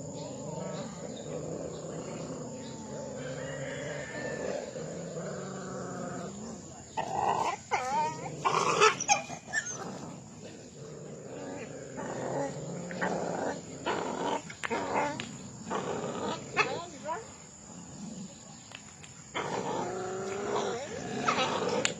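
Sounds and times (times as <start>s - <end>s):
dogs barking and yelping: 0.0s - 10.7s, 11.4s - 17.3s, 19.3s - 21.9s
dogs growling: 0.0s - 21.9s.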